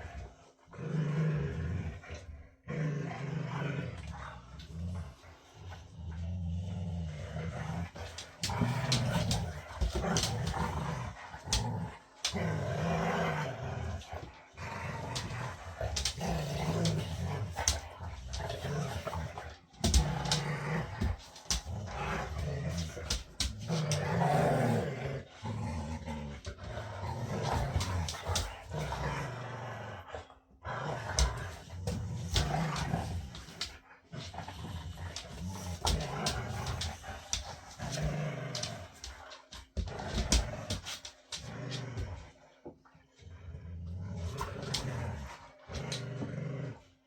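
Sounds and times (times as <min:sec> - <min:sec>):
dogs growling: 0:00.0 - 0:47.0.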